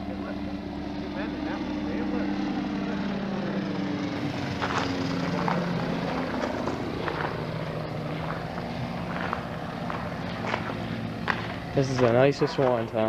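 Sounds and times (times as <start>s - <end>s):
ultralight aircraft engine and propeller: 0.0s - 13.0s.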